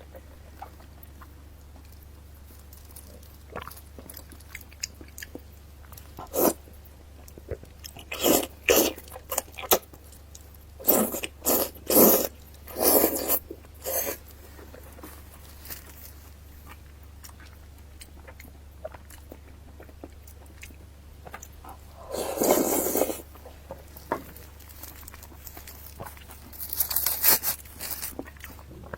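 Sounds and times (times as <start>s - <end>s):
person chewing crunchy food: 0.0s - 28.9s.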